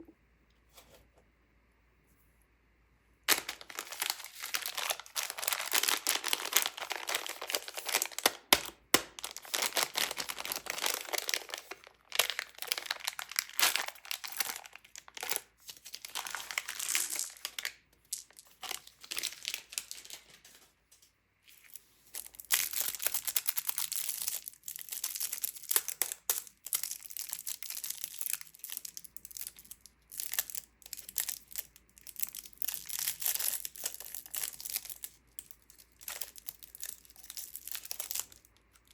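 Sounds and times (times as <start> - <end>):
wrappers crinkling and tearing: 3.3 - 20.7, 21.5 - 38.9.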